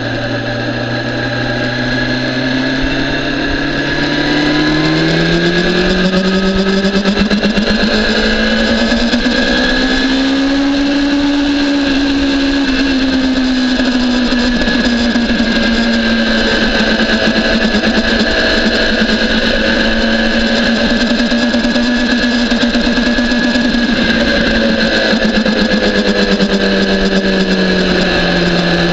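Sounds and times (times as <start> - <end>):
motorcycle engine at high revs: 0.0 - 28.9.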